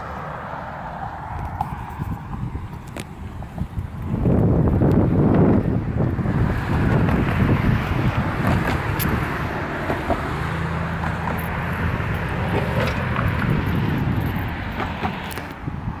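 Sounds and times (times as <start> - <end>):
road traffic passing: 0.0 - 16.0
vehicle engine hum: 0.0 - 16.0
wind buffeting microphone: 1.2 - 16.0.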